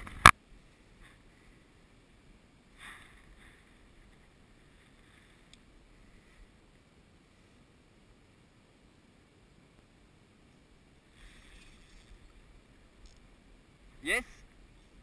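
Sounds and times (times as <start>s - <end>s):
soft rustle: 0.0s - 8.4s, 9.6s - 15.0s.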